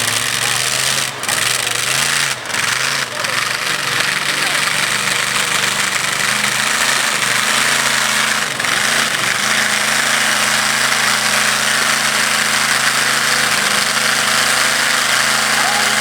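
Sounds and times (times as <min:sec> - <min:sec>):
drag truck engine running loud: 0:00.0 - 0:16.0.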